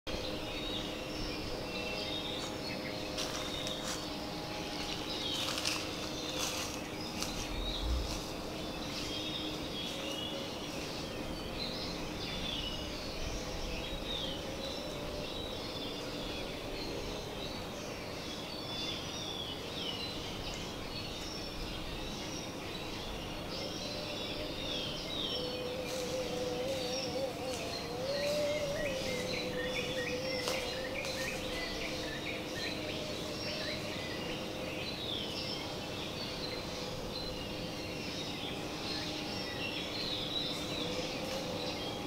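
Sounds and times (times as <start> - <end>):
birds chirping and calling: 0.1 - 42.0.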